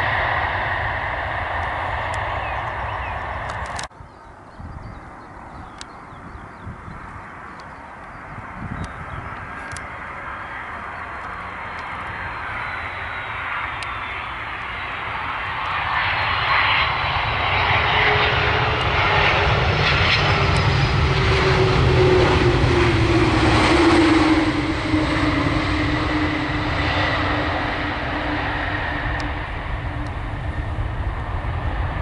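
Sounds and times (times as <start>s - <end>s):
jet airliner landing: 0.0s - 32.0s.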